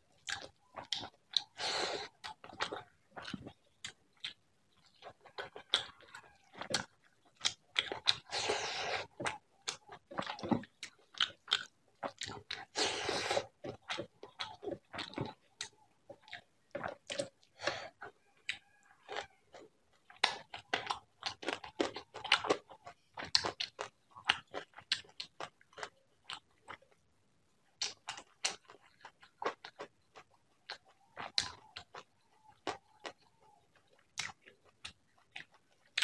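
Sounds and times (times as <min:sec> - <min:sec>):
wet chewing: 0:00.1 - 0:27.0, 0:27.8 - 0:36.0.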